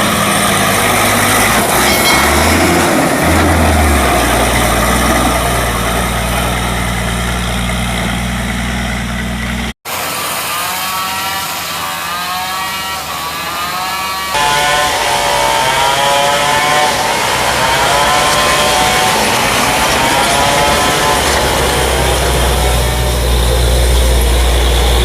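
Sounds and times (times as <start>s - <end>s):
truck diesel engine running: 0.0s - 10.4s, 14.3s - 25.0s.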